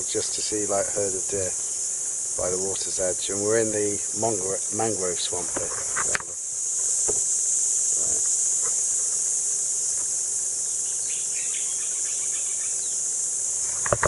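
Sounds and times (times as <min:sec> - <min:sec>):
insects high-pitched hiss: 0:00.0 - 0:14.0.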